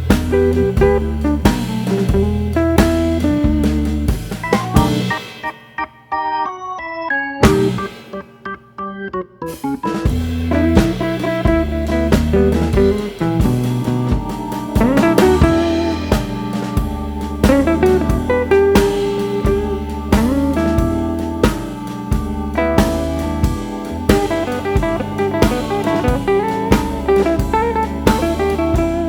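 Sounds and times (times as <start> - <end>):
bluesy guitar: 0.0 - 5.2, 9.6 - 29.0
drum beat: 0.0 - 5.5, 7.4 - 8.2, 9.8 - 29.0.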